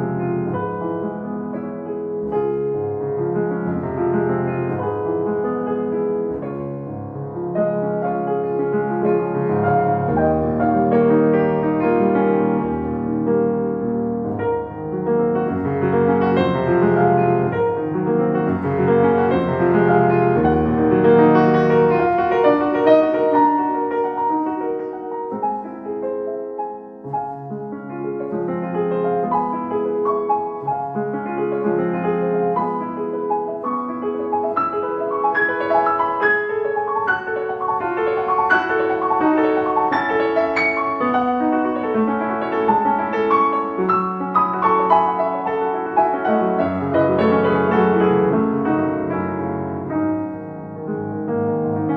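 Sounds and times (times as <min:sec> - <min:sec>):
slow classical piano piece: 0:00.0 - 0:51.9.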